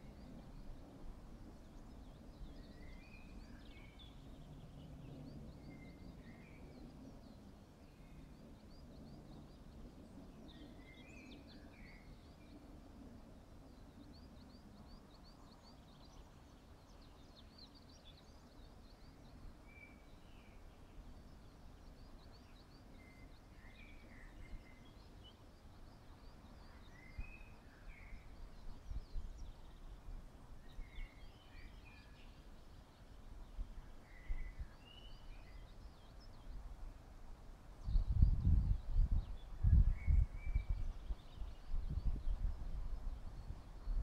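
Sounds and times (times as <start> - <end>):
small birds chirping: 0.0 - 37.0
wind rumble on microphone: 0.0 - 44.0.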